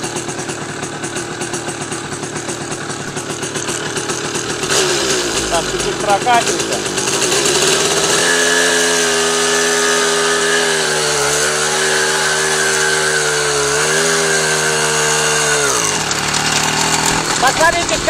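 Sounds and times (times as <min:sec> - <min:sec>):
moped two-stroke engine running: 0:00.0 - 0:18.0.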